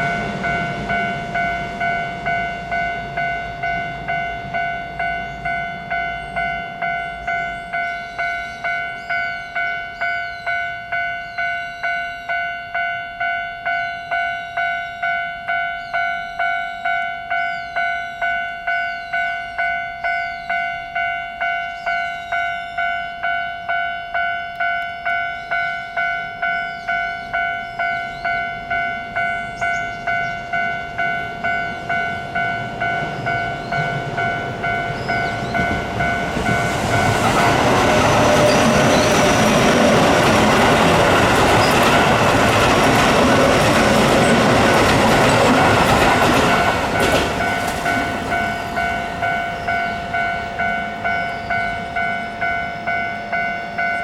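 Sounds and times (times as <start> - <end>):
level-crossing warning bell ringing: 0.0 - 54.0
train passing with wheel clatter: 0.0 - 54.0.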